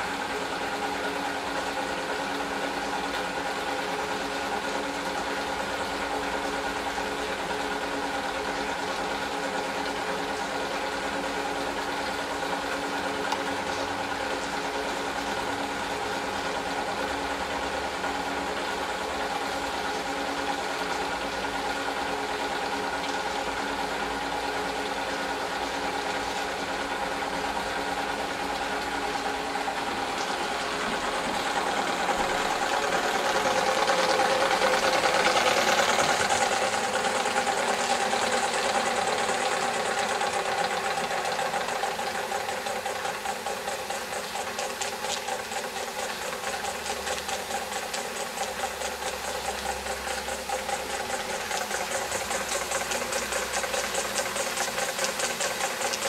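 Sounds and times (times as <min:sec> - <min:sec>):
model steam engine running: 0:00.0 - 0:56.0.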